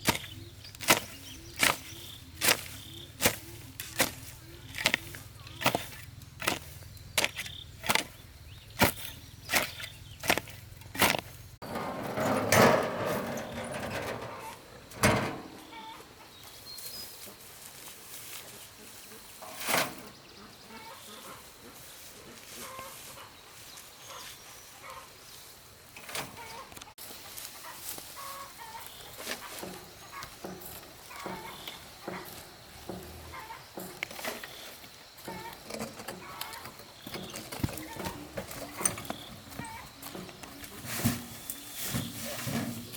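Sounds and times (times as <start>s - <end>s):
chickens clucking: 0.0s - 16.5s, 18.3s - 23.4s, 24.1s - 25.2s, 26.0s - 42.9s.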